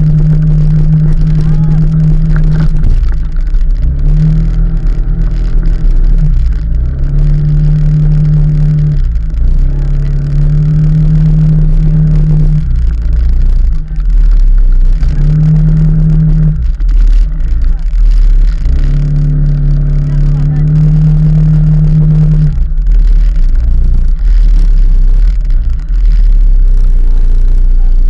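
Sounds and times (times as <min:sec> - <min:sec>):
vehicle engine accelerating: 0:00.0 - 0:28.0.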